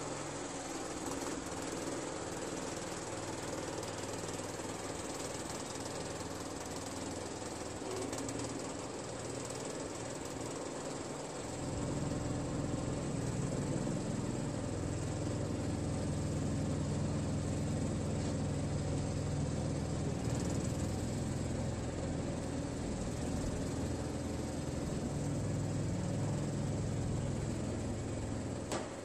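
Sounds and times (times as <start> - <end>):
lawn tractor engine idling: 0.0 - 29.0.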